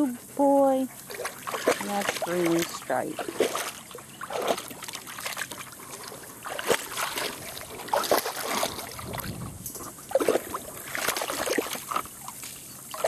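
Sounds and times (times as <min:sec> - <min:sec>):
water splashing in a plastic pool: 0:00.0 - 0:13.0.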